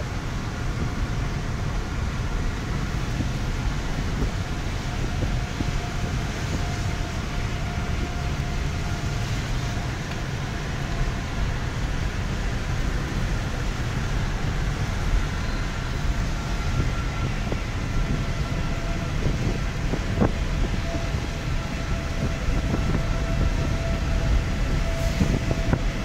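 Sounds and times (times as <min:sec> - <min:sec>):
car driving on wet road: 0:00.0 - 0:26.0.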